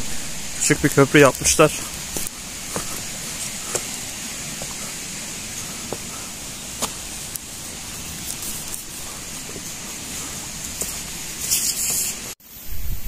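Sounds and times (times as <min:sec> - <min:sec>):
stream running over rocks: 0:00.0 - 0:12.4.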